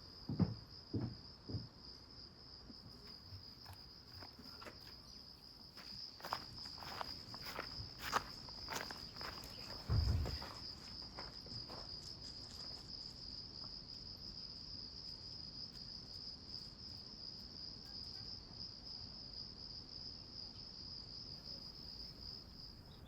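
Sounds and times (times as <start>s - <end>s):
insects trilling: 0.2s - 23.0s.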